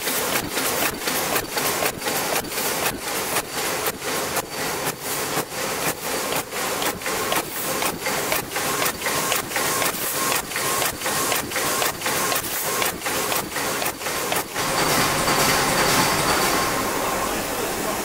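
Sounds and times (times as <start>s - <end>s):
machine clattering and hissing: 0.0s - 18.0s.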